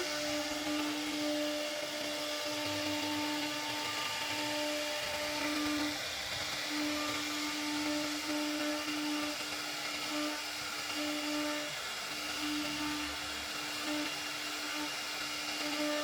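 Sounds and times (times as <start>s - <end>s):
router spindle whine cutting wood: 0.0s - 16.0s.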